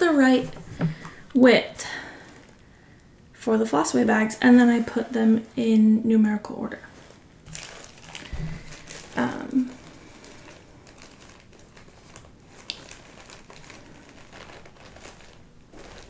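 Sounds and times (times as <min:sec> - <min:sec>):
plastic bags rustling and crinkling: 0:00.0 - 0:02.9, 0:04.4 - 0:16.0.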